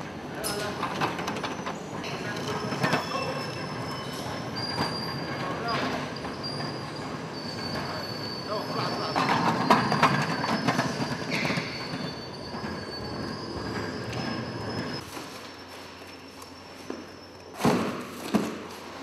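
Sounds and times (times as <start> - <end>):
pallet jack wheels rumbling: 0.0 - 15.2
high steady squeal: 1.5 - 17.6.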